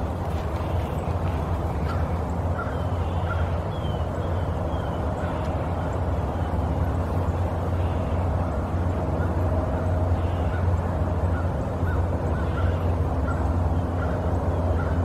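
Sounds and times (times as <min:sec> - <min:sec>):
faint bird calls: 0:00.0 - 0:15.0
low outdoor rumble: 0:00.0 - 0:15.0.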